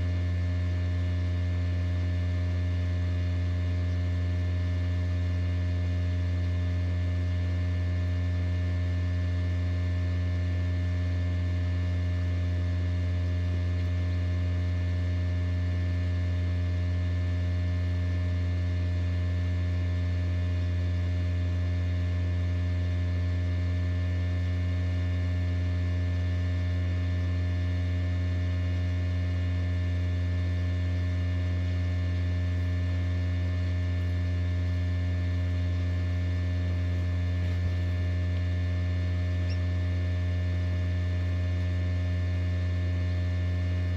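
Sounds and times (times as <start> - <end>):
incubator fan humming: 0.0 - 43.9.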